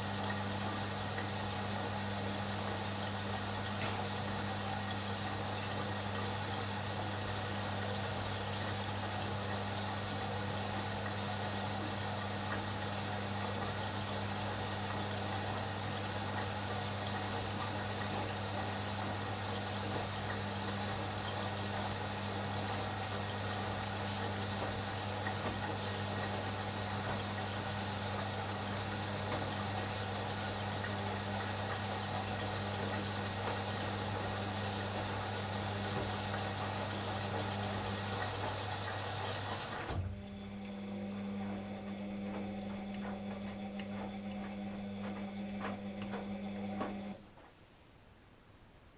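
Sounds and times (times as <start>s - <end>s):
washing machine humming: 0.0s - 47.3s.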